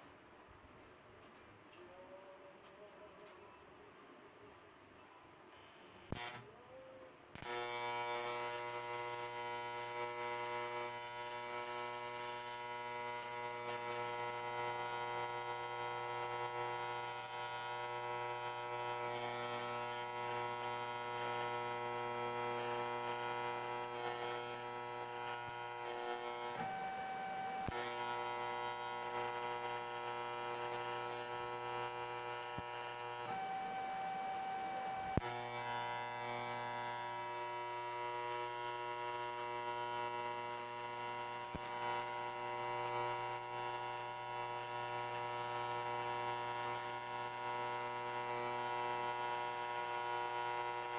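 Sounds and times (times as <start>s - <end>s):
electric tool buzzing: 5.6s - 6.4s, 7.4s - 50.9s.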